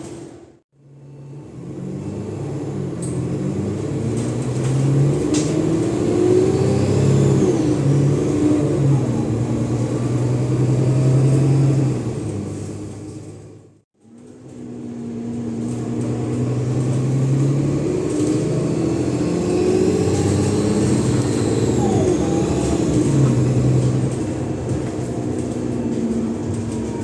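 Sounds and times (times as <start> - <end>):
diesel bus engine pulling hard: 0.0 - 27.0.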